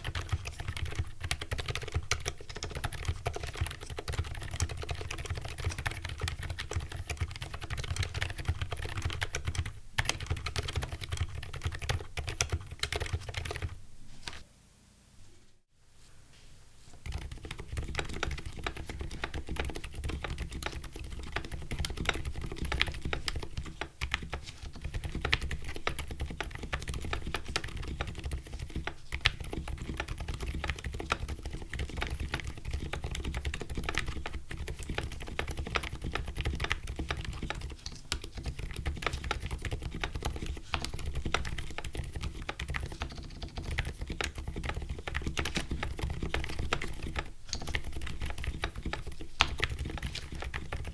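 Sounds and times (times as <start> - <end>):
fast typing on mechanical keyboard: 0.0 - 13.8, 17.0 - 50.9.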